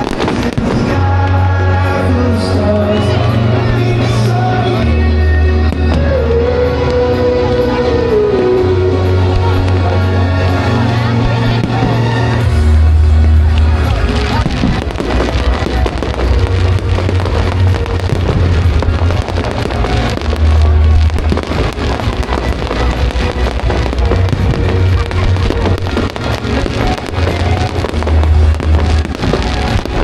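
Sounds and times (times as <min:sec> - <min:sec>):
fireworks crackling and banging: 0:00.0 - 0:30.0
loud music with heavy bass: 0:00.0 - 0:30.0.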